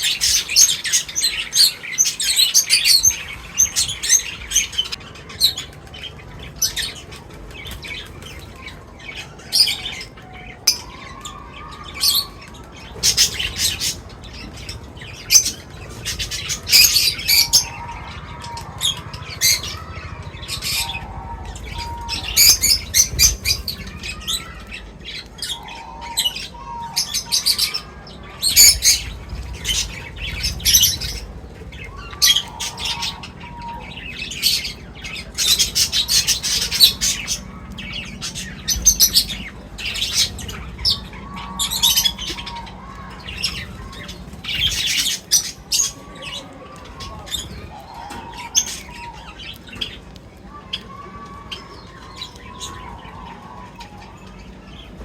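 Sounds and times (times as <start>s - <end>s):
lower warbling bird calls: 0.0s - 55.0s
small birds chirping: 0.0s - 55.0s.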